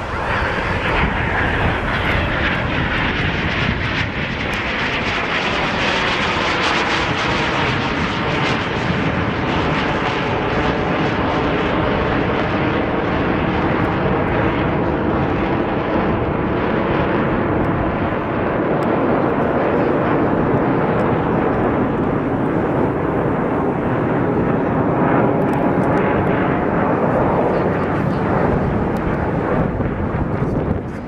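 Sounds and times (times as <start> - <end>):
jet engine rushing overhead: 0.0 - 31.0.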